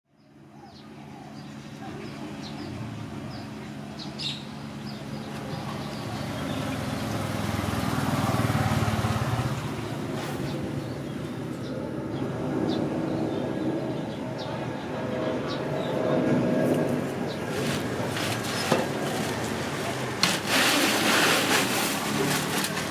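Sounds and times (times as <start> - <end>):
low motor hum: 0.2 - 20.2.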